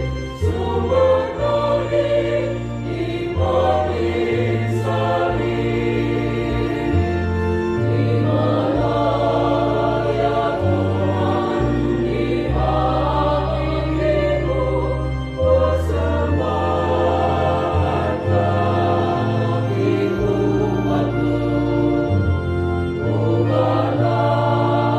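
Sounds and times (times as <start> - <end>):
church choir singing: 0.0 - 24.9.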